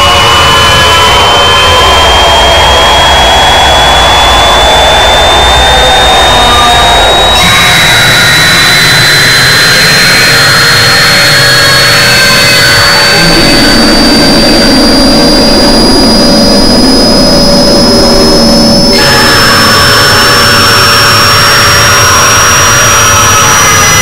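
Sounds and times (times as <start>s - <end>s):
harsh layered noise: 0.0s - 24.0s
piercing high tone rising: 0.0s - 24.0s.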